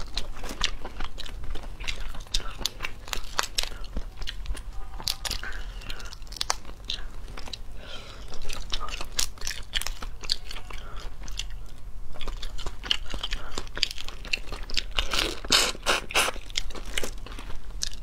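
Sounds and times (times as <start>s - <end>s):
biting and chewing: 0.0s - 18.0s.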